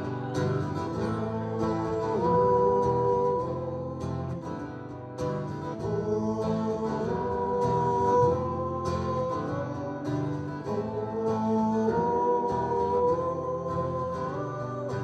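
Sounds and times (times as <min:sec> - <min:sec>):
man singing long notes: 0:00.0 - 0:04.6, 0:05.2 - 0:15.0
acoustic guitars strummed: 0:00.0 - 0:15.0.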